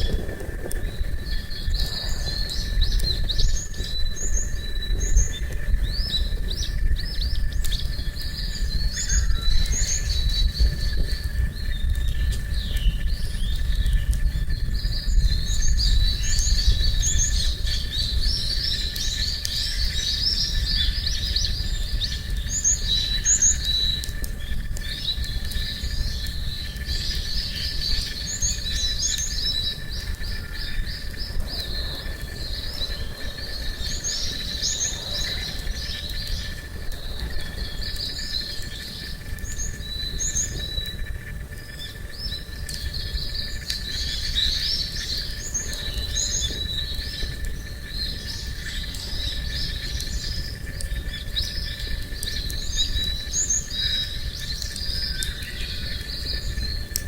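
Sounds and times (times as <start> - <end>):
steady low rumble: 0.0 - 22.7, 23.8 - 57.0
small birds chirping and singing: 0.0 - 57.0.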